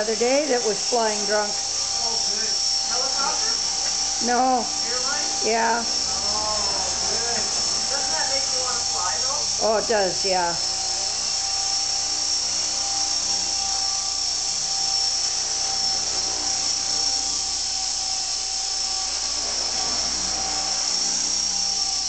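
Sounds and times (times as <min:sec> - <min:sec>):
model helicopter motor whine: 0:00.0 - 0:22.0
rotor hum: 0:00.0 - 0:22.0.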